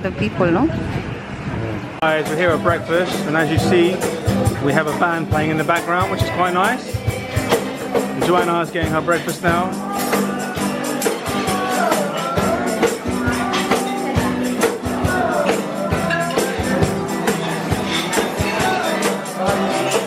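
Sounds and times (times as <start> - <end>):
percussion beat: 2.0 - 20.0
live band playing: 2.1 - 20.0
person singing: 2.2 - 20.0.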